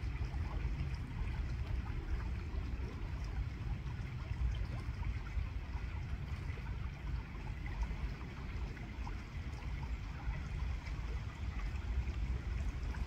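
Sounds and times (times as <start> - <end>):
river water flowing over stones: 0.0 - 13.0.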